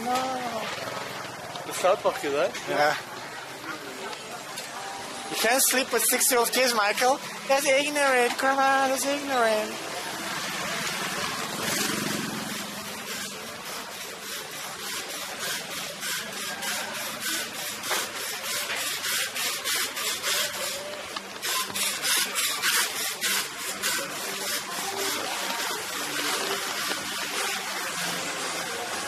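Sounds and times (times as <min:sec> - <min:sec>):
faint street background: 0:00.0 - 0:29.0.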